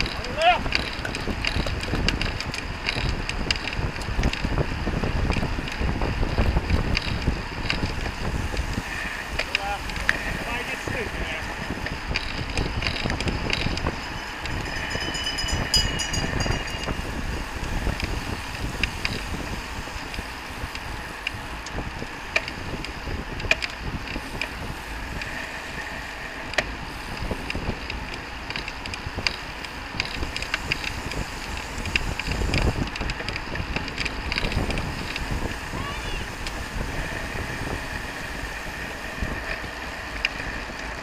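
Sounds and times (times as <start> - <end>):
sharp clicks and rattles: 0.0 - 35.7
road bikes rolling: 0.0 - 41.0
wind buffeting microphone: 0.0 - 41.0.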